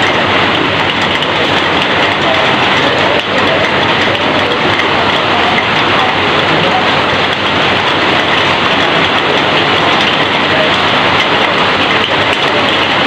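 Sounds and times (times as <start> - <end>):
heavy rain on a metal roof: 0.0 - 13.0.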